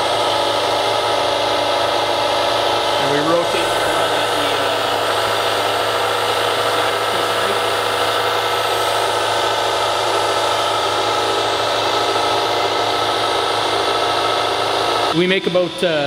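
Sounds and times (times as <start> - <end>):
hydraulic machine humming: 0.0 - 16.0.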